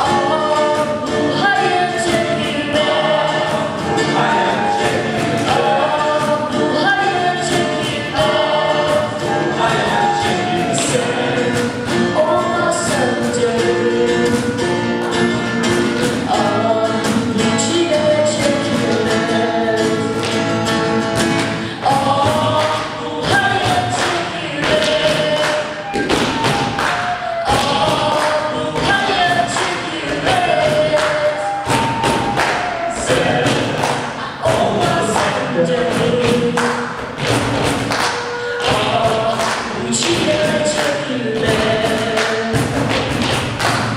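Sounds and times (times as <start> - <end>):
group of people singing: 0.0 - 43.9.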